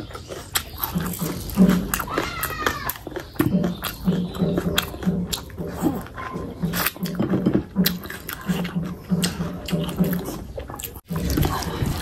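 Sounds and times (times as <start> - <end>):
wet chewing and smacking: 0.0 - 12.0.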